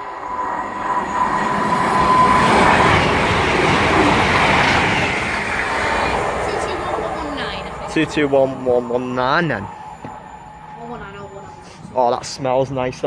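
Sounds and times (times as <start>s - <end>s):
thin steady whine: 0.0s - 13.0s
train passing at speed: 0.0s - 13.0s.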